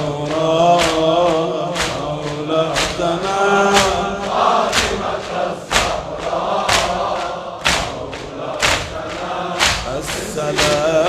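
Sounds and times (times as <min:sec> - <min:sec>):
men chanting together: 0:00.0 - 0:11.0
chest-beating slaps: 0:00.2 - 0:11.0.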